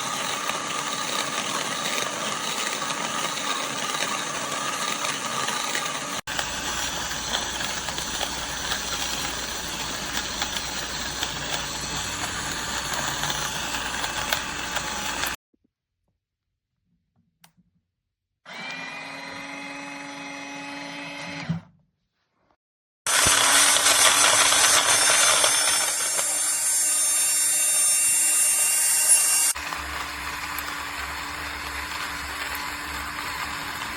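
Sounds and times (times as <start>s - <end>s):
coffee grinder motor whirring: 0.0s - 15.4s, 18.5s - 21.5s, 23.1s - 33.9s.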